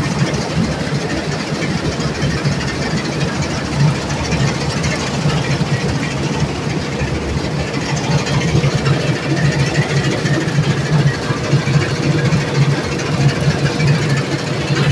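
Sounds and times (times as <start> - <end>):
diesel engine running under load: 0.0 - 14.9.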